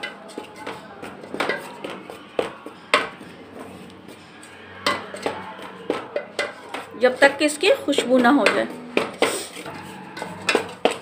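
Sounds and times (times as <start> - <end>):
metal spoon scraping steel pan: 0.0 - 11.0.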